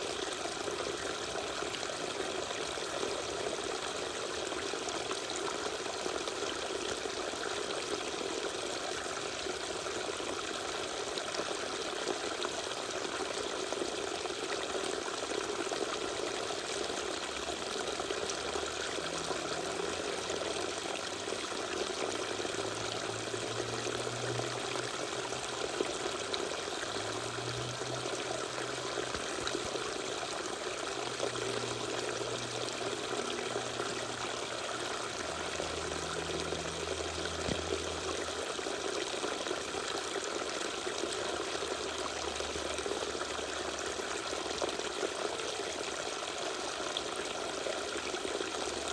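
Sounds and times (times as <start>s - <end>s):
water pouring and splashing: 0.0s - 48.9s.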